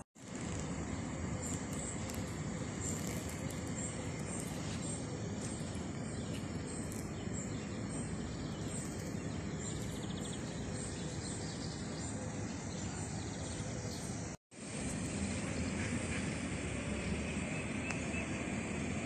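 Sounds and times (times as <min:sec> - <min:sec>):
distant outdoor hum: 0:00.0 - 0:19.0.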